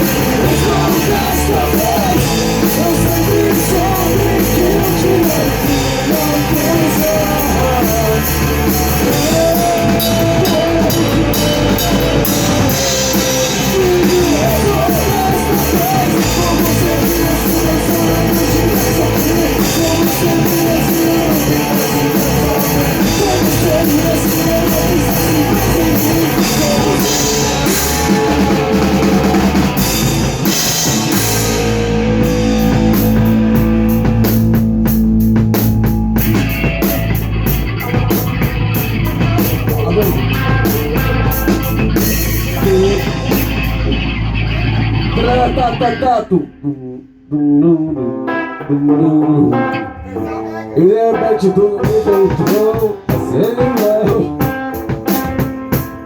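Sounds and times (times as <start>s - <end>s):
drum kit: 0.0s - 46.7s, 47.9s - 56.0s
electric guitar playing: 0.0s - 56.0s.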